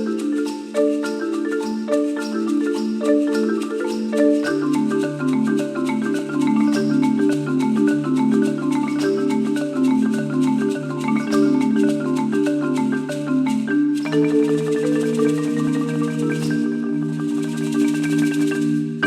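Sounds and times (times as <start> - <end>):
marimba ensemble: 0.0 - 19.0.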